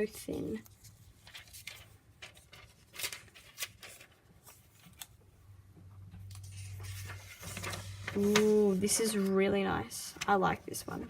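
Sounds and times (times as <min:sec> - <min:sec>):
paper rustling and crinkling: 0:00.4 - 0:05.2, 0:06.2 - 0:11.0.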